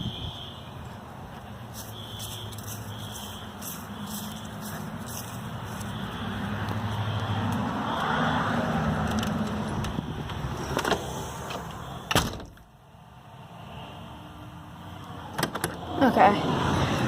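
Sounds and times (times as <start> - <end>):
passing vehicle road noise: 0.0 - 12.2, 12.8 - 17.0.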